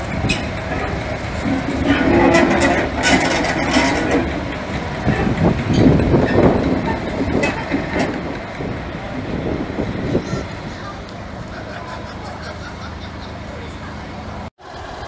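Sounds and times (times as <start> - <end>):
diesel locomotive passing slowly: 0.0 - 15.0.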